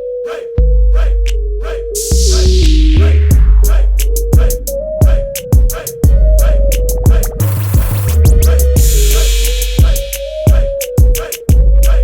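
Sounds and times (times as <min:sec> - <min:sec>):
hip hop beat: 0:00.0 - 0:12.0
heavy bass: 0:00.6 - 0:10.8, 0:11.5 - 0:12.0.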